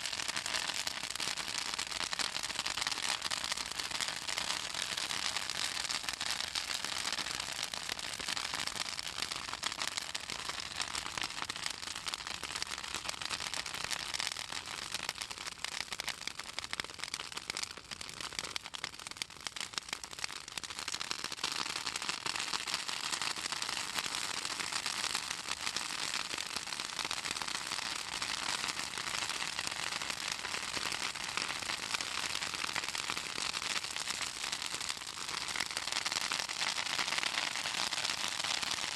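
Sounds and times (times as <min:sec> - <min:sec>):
branches crackling in a fire: 0:00.0 - 0:38.9.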